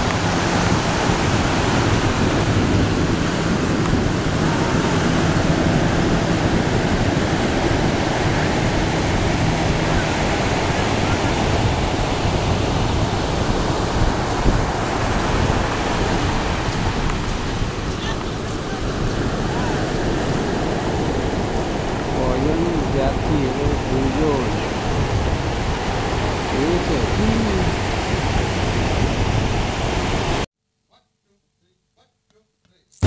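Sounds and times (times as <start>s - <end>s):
surf breaking on beach: 0.0s - 30.5s.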